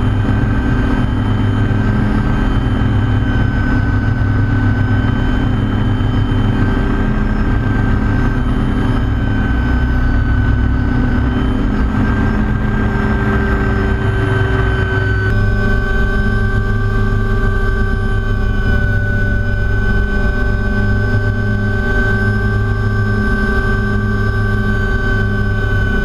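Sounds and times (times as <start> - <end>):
helicopter rotor rumble: 0.0 - 26.0
whining engine tone: 0.0 - 26.0.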